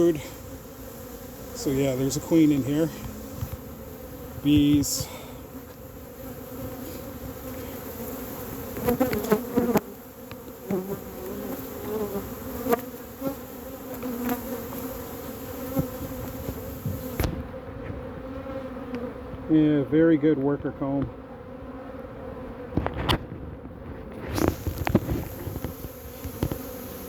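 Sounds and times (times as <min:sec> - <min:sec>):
bees buzzing: 0:00.0 - 0:20.2, 0:20.8 - 0:27.0.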